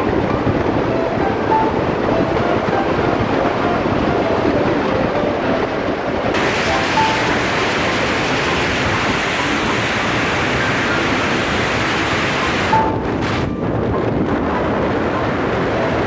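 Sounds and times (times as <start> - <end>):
motorcycle road and engine noise: 0.0 - 16.0
wind rushing on microphone: 0.0 - 16.0.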